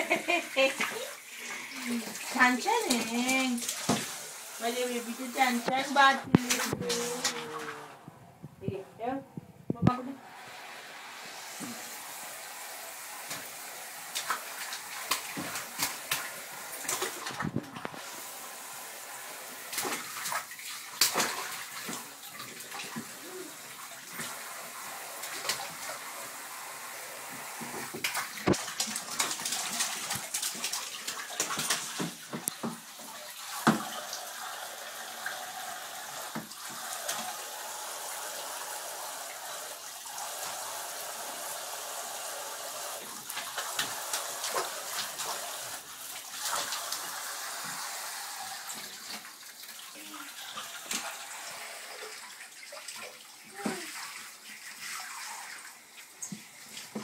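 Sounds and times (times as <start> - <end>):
water splashing in a bathtub: 0.0 - 57.0.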